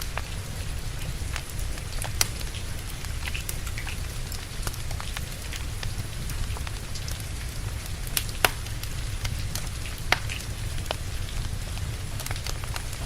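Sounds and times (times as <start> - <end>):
rain hiss: 0.0 - 13.0
wood fire crackling and popping: 0.0 - 13.0.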